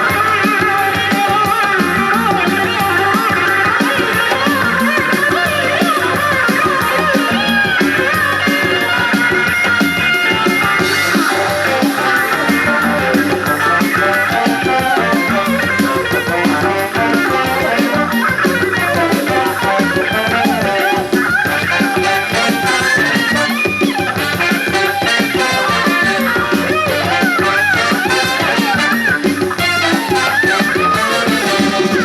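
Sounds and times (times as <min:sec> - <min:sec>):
music through boombox speakers: 0:00.0 - 0:32.0.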